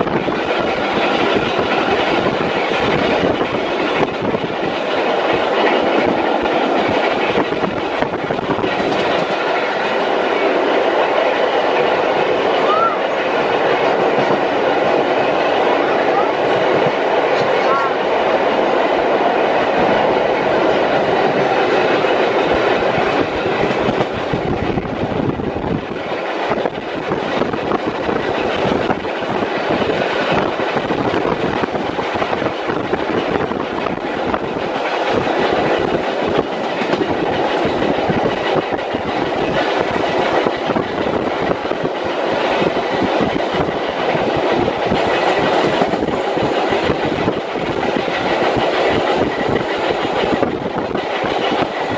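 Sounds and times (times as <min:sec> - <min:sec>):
train car rumble: 0:00.0 - 0:51.9
wheels clicking over rail joints: 0:00.0 - 0:51.9.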